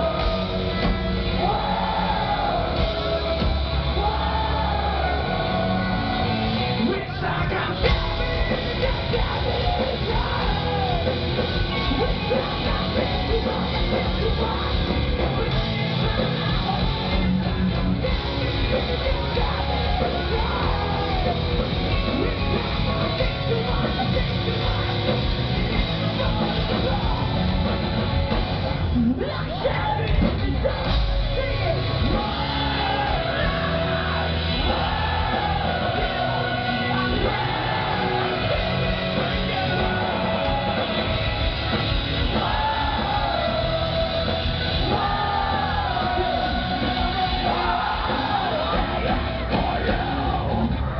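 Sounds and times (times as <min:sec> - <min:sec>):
rock band playing live: 0:00.0 - 0:50.9
singer yelling and singing: 0:00.0 - 0:50.9.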